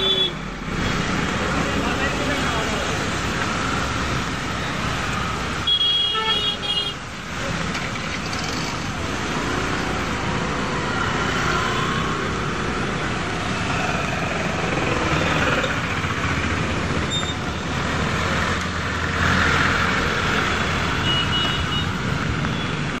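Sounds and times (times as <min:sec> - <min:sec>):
traffic through flood water: 0:00.0 - 0:23.0.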